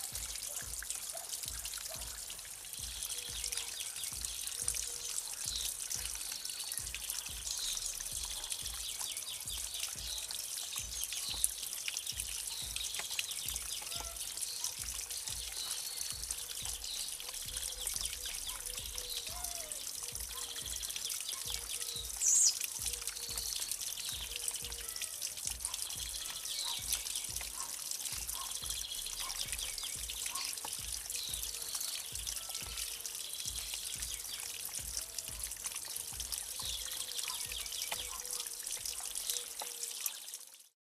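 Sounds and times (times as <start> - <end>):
birds chirping: 0.0 - 40.4
water trickling and splashing: 0.0 - 40.8.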